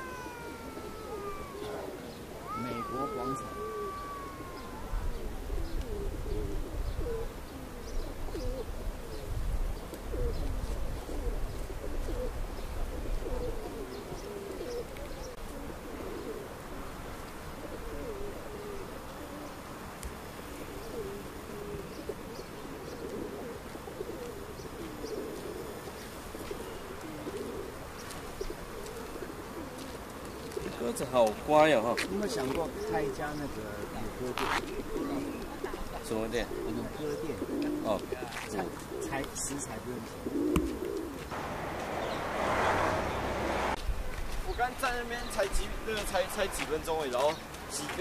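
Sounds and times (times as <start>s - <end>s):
pigeons cooing: 0.0s - 47.5s.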